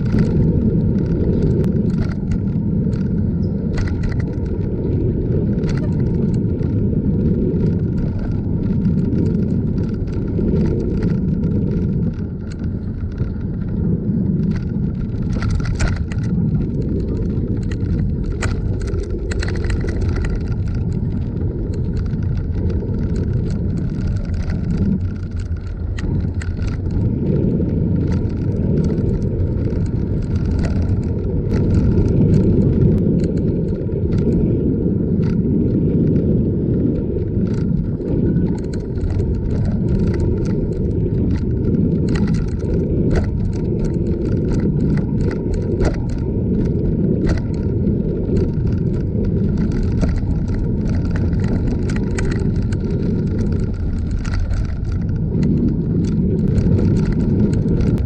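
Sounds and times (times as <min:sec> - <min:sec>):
bicycle rattles and clicks: 0:00.0 - 0:58.0
bicycle rolling on pavement: 0:00.0 - 0:58.0.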